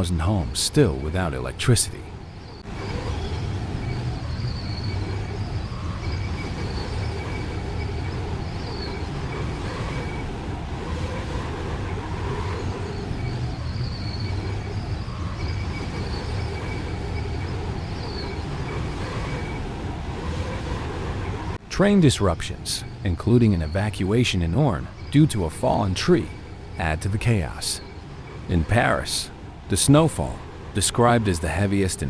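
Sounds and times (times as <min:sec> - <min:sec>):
faint high whine: 0:00.0 - 0:32.0
vehicle low rumble: 0:00.0 - 0:32.0.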